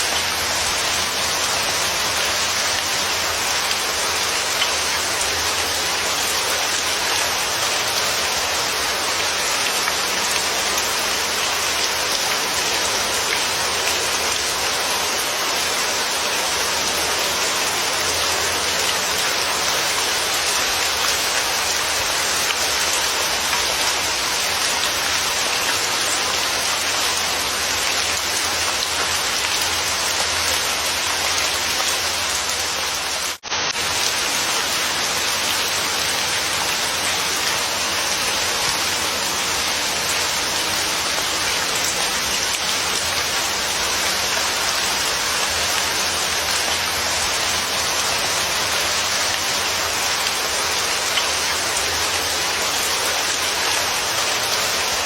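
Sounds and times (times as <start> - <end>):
heavy rain pattering: 0.0 - 55.0.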